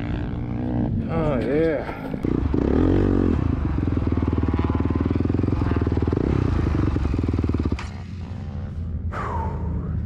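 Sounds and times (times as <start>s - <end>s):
dirt bike engine running: 0.0s - 9.0s.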